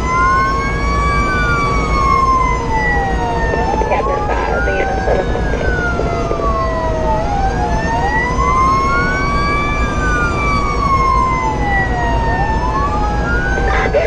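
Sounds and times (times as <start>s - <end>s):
engine and road rumble: 0.0s - 14.0s
fire engine siren wailing: 0.0s - 14.0s.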